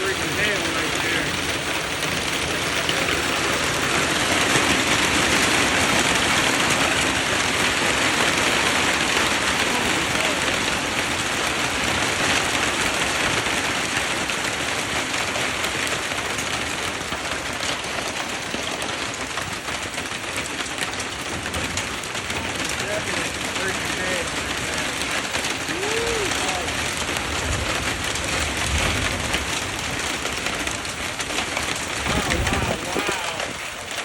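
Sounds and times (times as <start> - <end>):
heavy hail pelting down: 0.0 - 34.0.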